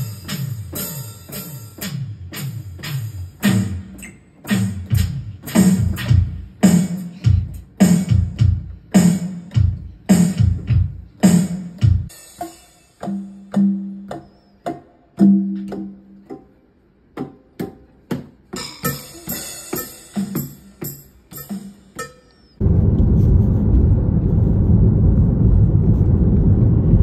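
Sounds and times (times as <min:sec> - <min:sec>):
drum machine beat with bass: 0:00.0 - 0:16.4, 0:17.0 - 0:27.0.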